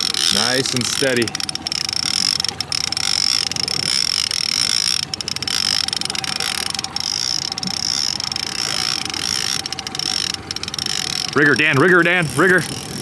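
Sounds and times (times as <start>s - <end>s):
boat motor running: 0.0s - 13.0s
fishing reel cranking: 0.0s - 13.0s.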